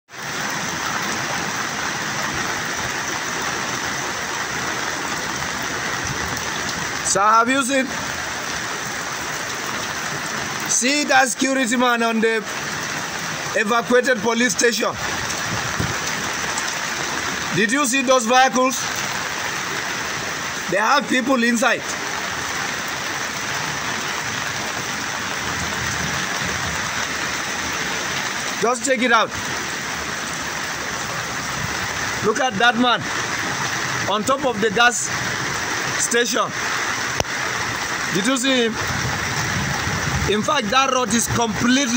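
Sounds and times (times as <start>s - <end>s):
fast-flowing floodwater rushing: 0.1s - 41.9s
heavy rain: 0.1s - 41.9s.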